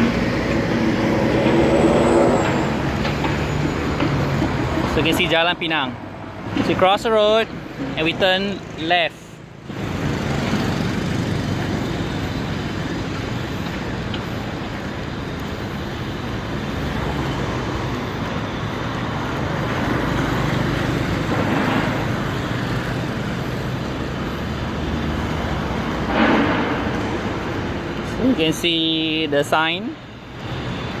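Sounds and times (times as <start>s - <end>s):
passing traffic rumble: 0.0s - 31.0s.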